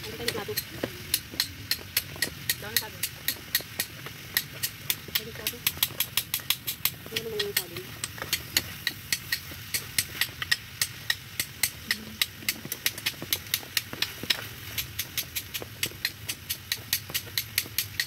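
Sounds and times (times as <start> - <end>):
fat popping and crackling: 0.0 - 18.0
low steady rumble: 0.0 - 18.0.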